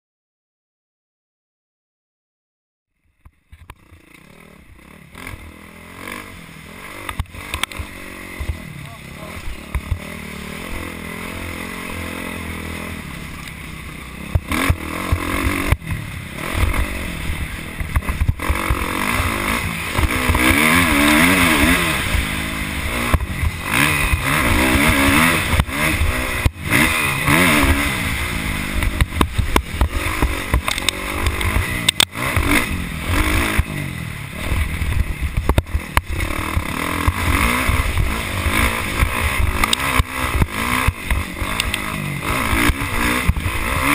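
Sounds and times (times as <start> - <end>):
motocross bike engine revving: 3.3 - 43.9.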